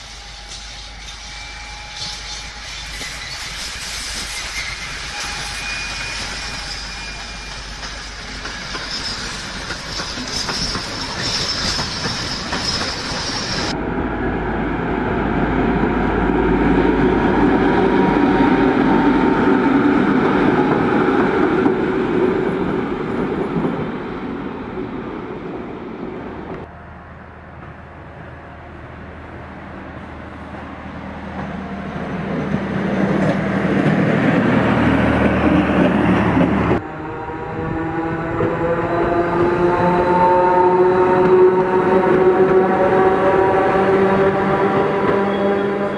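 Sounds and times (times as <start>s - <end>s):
trains running on rails: 0.0s - 45.9s.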